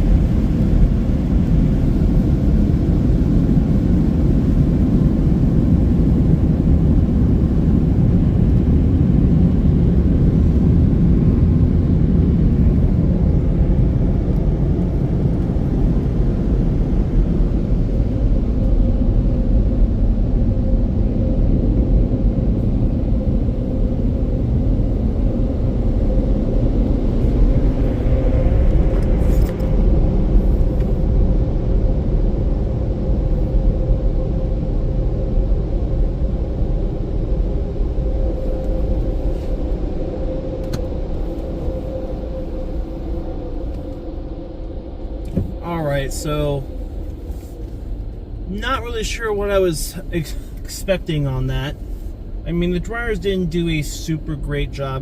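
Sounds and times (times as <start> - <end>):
dryer blowers rushing air: 0.0 - 55.0.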